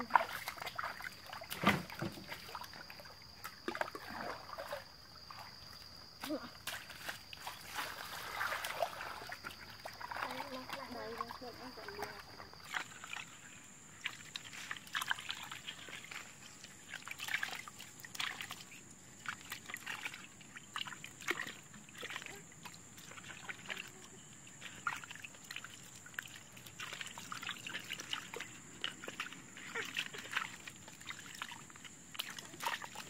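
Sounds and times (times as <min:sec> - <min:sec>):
hands splashing in buckets of water: 0:00.0 - 0:33.0.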